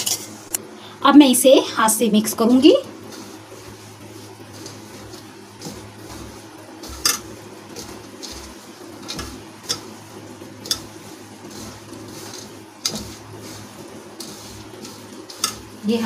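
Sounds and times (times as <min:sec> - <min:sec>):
gritty rustle of dry mixture: 0:02.2 - 0:16.0.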